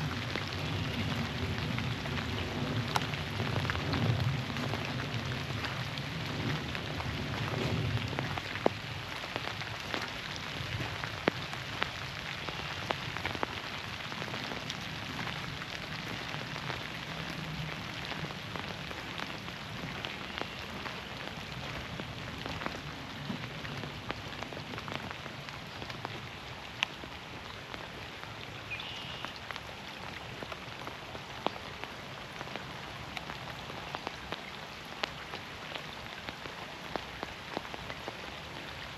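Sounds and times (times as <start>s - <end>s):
rain falling in forest: 0.0s - 38.9s.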